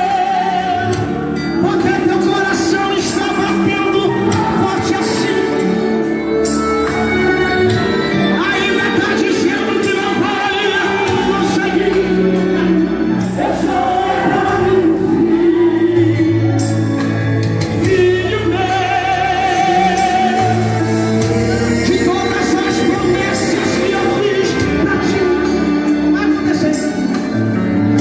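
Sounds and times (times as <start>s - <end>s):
person singing with vibrato: 0.0s - 27.0s
full band playing: 0.0s - 28.0s
steady bass line: 0.0s - 28.0s.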